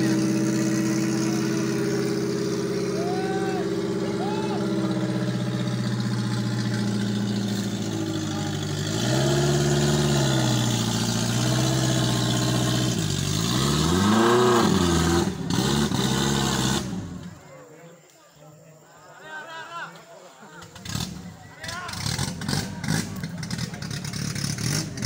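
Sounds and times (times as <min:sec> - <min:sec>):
off-road vehicle engine revving: 0:00.0 - 0:17.6, 0:20.6 - 0:25.0.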